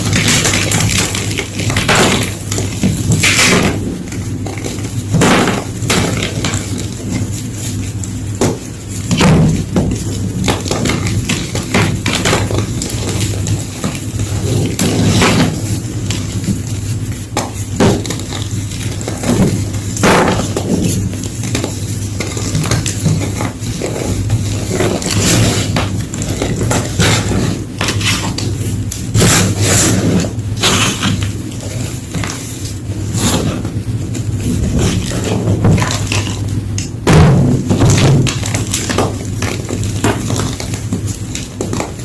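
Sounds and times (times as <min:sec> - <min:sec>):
chalk being crushed: 0:00.0 - 0:33.8.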